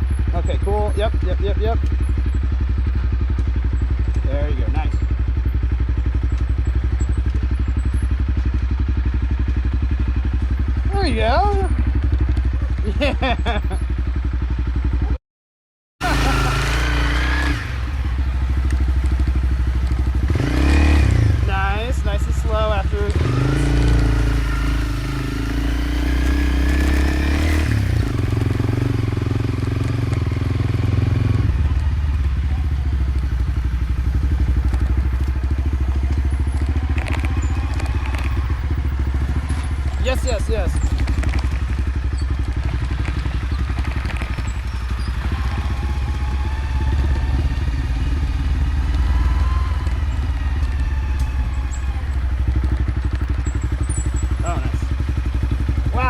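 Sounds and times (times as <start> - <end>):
dirt bike engine chugging: 0.0 - 15.2, 16.0 - 56.0.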